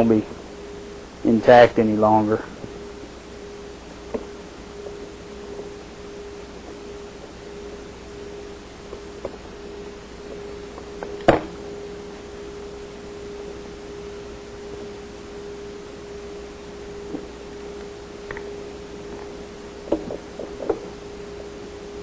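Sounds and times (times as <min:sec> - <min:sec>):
steady mid-pitched hum: 0:00.0 - 0:22.0.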